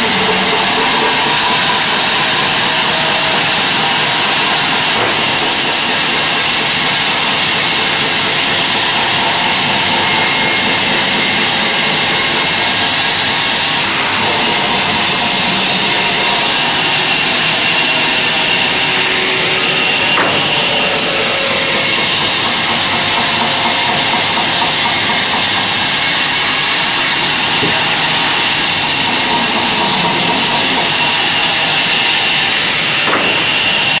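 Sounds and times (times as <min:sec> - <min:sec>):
band saw cutting timber: 0:00.0 - 0:34.0.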